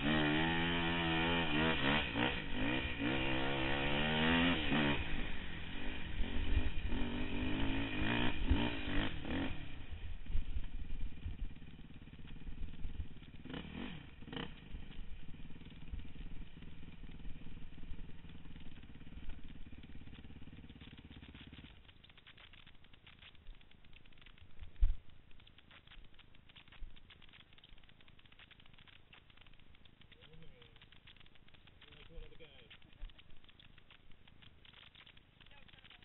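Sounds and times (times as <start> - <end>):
quad engine revving: 0.0 - 23.3, 30.2 - 36.0.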